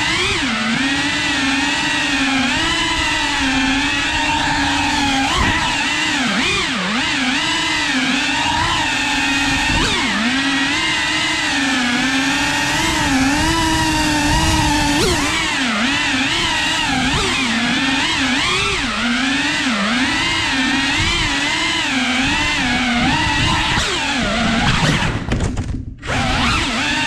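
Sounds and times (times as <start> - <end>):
drone motors whining: 0.0 - 25.4, 26.0 - 27.0.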